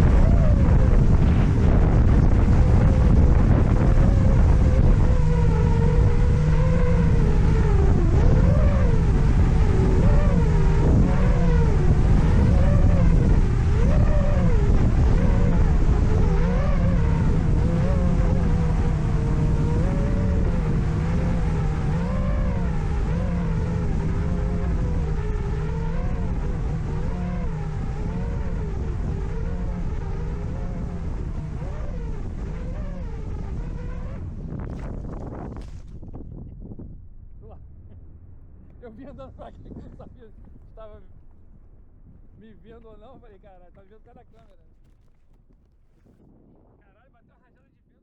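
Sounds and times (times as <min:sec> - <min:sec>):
drone motors whining: 0:00.0 - 0:46.6
wind buffeting microphone: 0:00.0 - 0:48.0.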